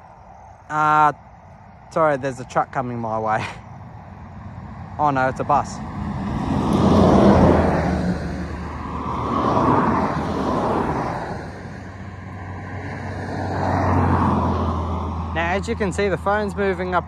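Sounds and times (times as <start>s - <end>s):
bus passing: 0.0s - 17.0s
highway traffic passing: 0.0s - 17.0s
pickup truck passing: 2.1s - 17.0s.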